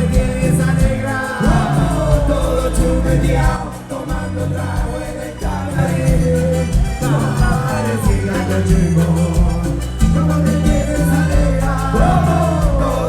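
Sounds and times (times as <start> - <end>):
group singing: 0.0 - 13.0
live cumbia band: 0.0 - 13.0.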